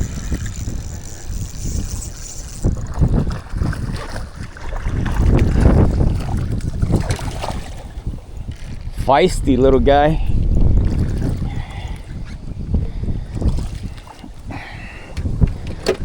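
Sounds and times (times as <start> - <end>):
water slapping against hull: 0.0 - 9.0, 10.5 - 16.0
wind buffeting microphone: 0.0 - 16.0.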